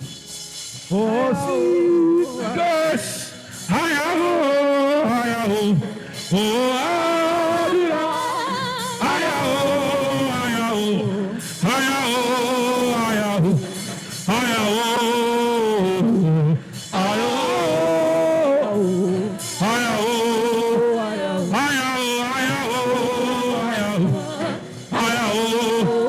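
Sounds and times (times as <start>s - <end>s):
person singing worship phrases: 0.8s - 26.0s.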